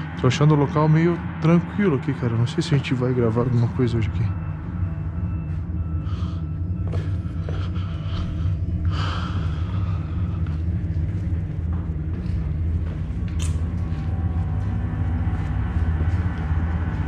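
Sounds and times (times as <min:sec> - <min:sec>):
low droning rumble: 0:00.0 - 0:17.0.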